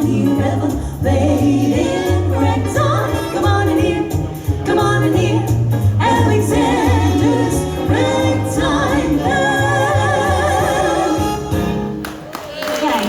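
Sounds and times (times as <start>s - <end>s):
women singing in close harmony: 0.0s - 11.7s
band with walking bass: 0.0s - 12.3s.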